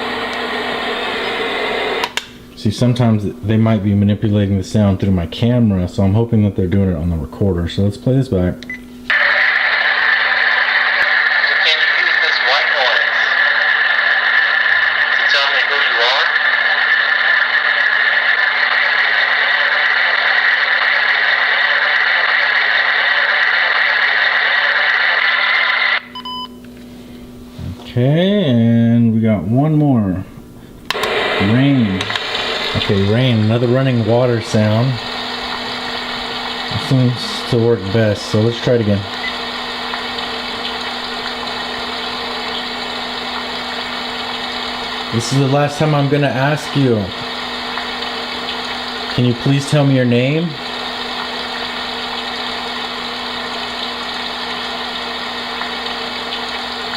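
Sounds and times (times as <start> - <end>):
white noise hiss from speaker: 0.0 - 56.9.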